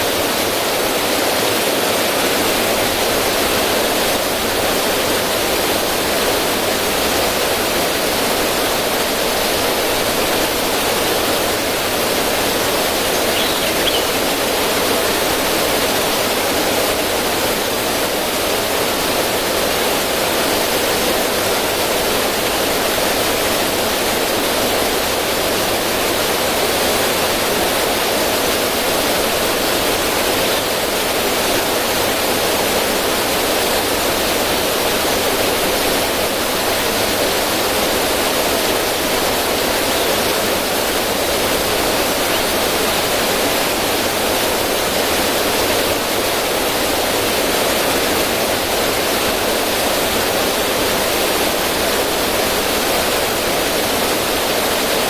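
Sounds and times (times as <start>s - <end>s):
river water rushing over rocks: 0.0s - 55.0s.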